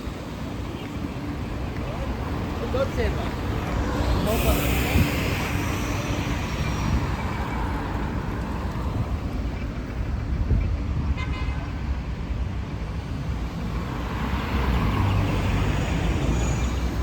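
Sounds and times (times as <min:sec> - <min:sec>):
rumble of passing cars: 0:00.0 - 0:17.0.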